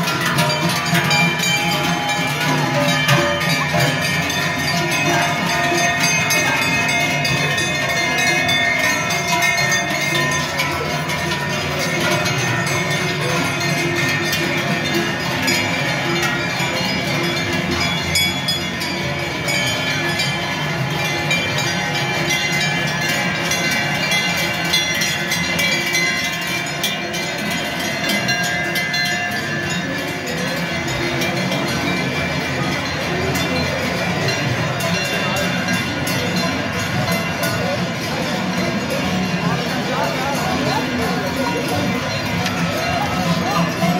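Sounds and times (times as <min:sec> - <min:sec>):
cowbells clanging: 0:00.0 - 0:43.9.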